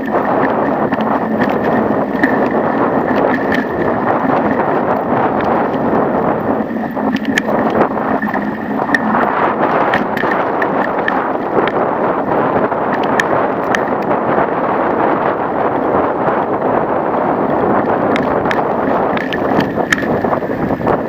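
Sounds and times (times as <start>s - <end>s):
bicycle clicks and rattles: 0.0s - 21.0s
wind rushing over microphone: 0.0s - 21.0s.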